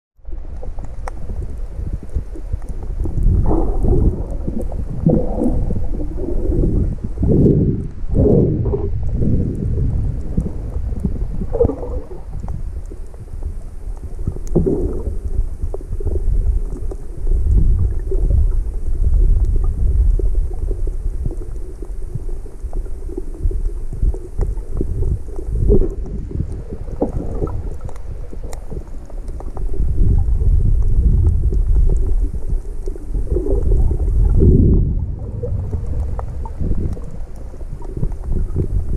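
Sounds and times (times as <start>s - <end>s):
muffled underwater rumbling and sloshing: 0.2s - 38.9s
faint clicks: 0.4s - 5.5s, 8.8s - 34.4s, 35.4s - 38.9s.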